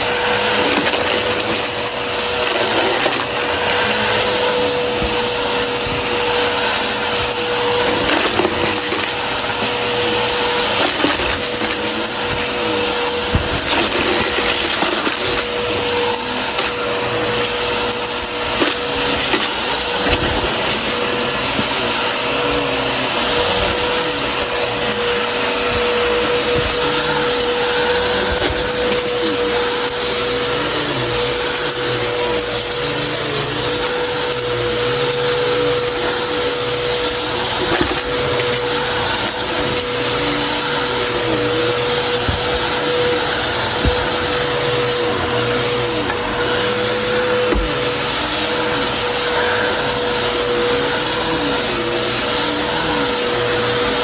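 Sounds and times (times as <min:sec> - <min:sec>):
debris clicking and crackling: 0:00.0 - 0:30.3, 0:33.6 - 0:49.6
vacuum cleaner running: 0:00.0 - 0:54.0.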